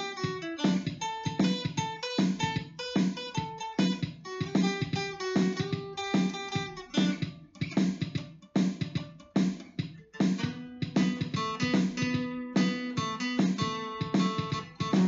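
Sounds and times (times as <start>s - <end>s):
guitar strumming: 0.0s - 15.0s.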